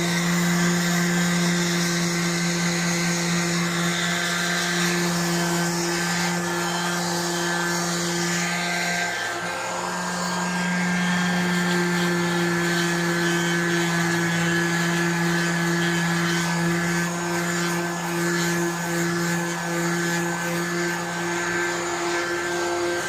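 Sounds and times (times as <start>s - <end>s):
electric power tool humming: 0.0s - 23.0s.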